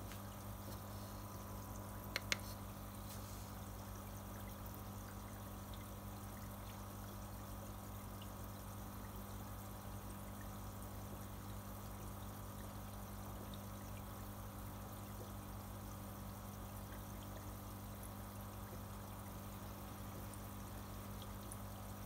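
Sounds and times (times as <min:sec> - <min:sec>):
low steady hum: 0:00.0 - 0:22.0
water trickling in fish tank: 0:00.0 - 0:22.0.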